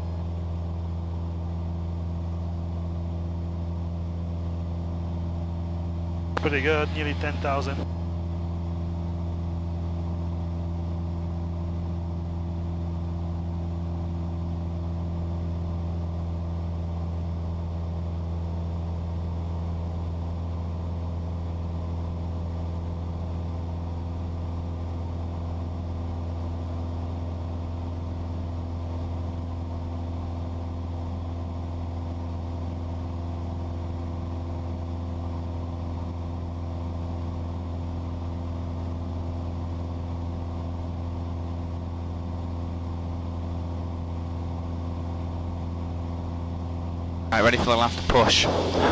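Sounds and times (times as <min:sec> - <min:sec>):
light aircraft engine drone: 0:00.0 - 0:48.9.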